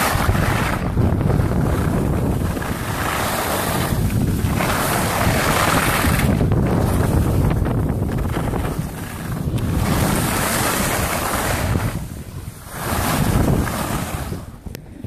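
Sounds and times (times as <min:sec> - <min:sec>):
skis scraping on snow: 0:00.0 - 0:14.7
wind buffeting microphone: 0:00.0 - 0:15.0.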